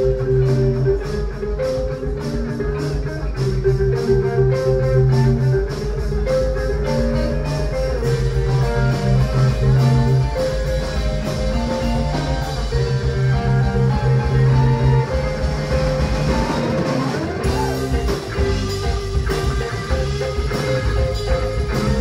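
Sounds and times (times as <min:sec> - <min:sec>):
drum kit: 0:00.0 - 0:22.0
electric bass notes: 0:00.0 - 0:22.0
electric guitars: 0:00.0 - 0:22.0.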